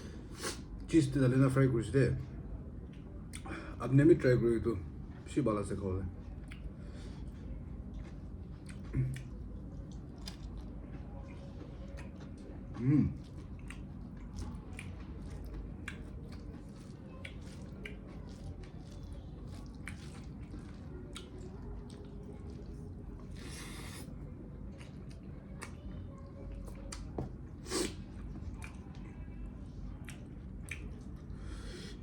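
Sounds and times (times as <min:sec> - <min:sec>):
wet chewing mouth sounds: 0:06.2 - 0:32.0.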